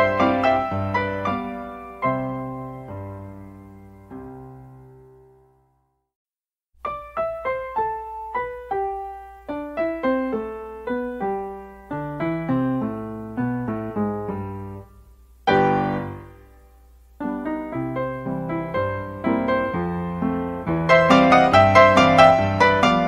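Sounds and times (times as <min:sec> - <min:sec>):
piano melody: 0:00.0 - 0:05.6, 0:06.8 - 0:23.0.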